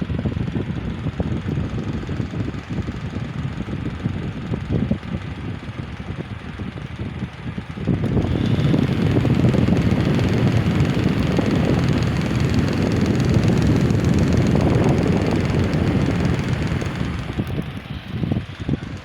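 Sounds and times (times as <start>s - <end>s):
electric fan running: 0.0s - 19.0s.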